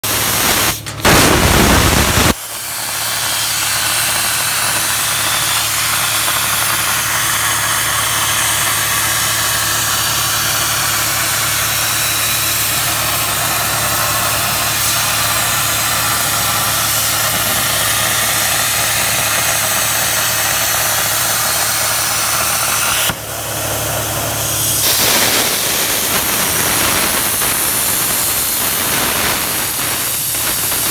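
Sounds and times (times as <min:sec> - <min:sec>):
plasma cutter hissing: 0:00.0 - 0:30.9.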